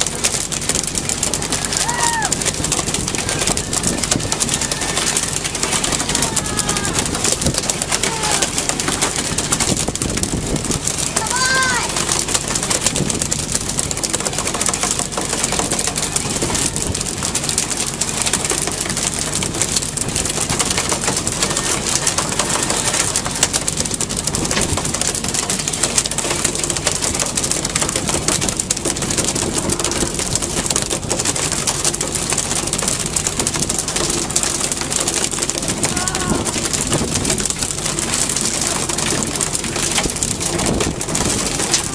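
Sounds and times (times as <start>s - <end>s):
boat engine: 0.0s - 41.9s
water rushing: 0.0s - 41.9s
wind: 0.0s - 41.9s.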